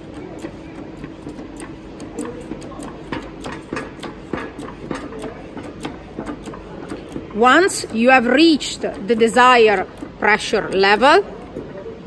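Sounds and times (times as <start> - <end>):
hydraulic hand pump clicking: 0.0 - 11.0.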